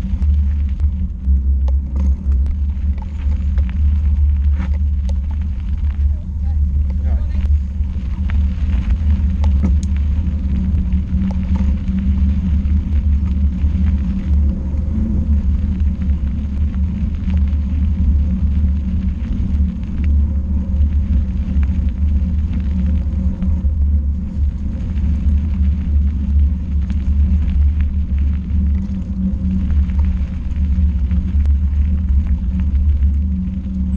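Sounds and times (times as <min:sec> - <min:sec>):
vehicle rumbling on gravel: 0:00.0 - 0:33.9.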